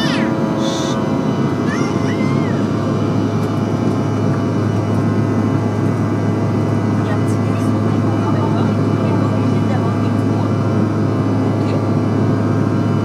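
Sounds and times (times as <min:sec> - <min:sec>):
jet engine drone: 0:00.0 - 0:13.0.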